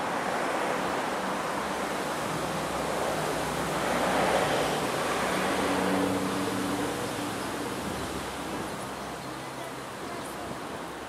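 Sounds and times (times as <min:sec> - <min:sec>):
rushing wind: 0:00.0 - 0:11.0.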